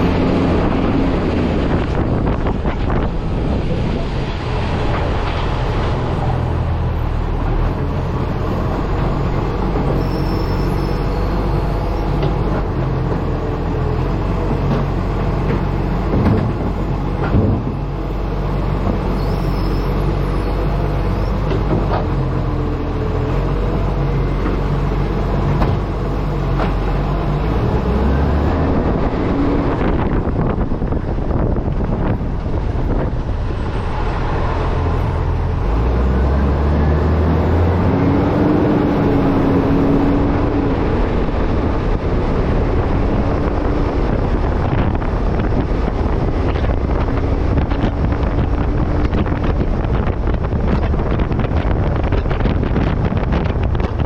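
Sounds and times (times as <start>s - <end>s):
diesel truck engine running: 0.0s - 54.0s
road noise: 0.0s - 54.0s
wind buffeting microphone: 0.0s - 54.0s.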